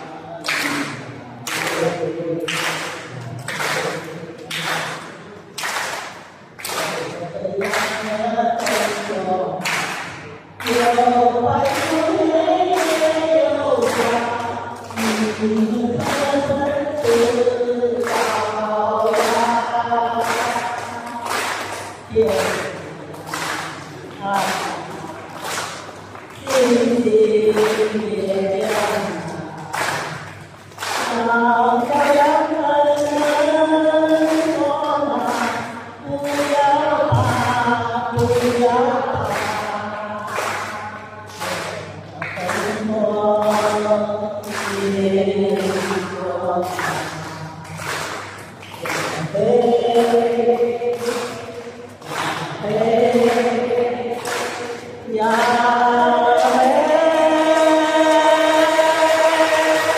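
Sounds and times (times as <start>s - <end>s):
woman chanting: 0.0s - 59.9s
woman singing into a microphone: 6.7s - 59.9s.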